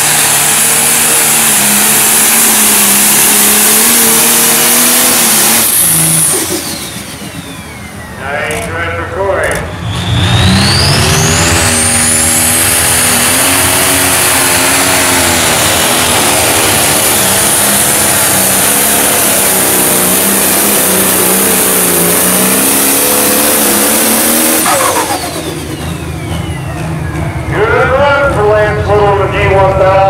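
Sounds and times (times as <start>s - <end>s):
diesel tractor engine at full throttle: 0.0s - 30.0s
high turbo whine: 0.0s - 30.0s.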